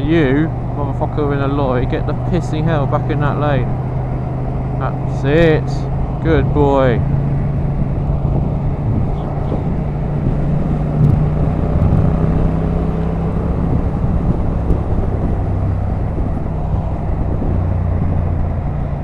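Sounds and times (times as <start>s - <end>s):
motorcycle engine drone: 0.0s - 19.0s
wind and road rush: 0.0s - 19.0s.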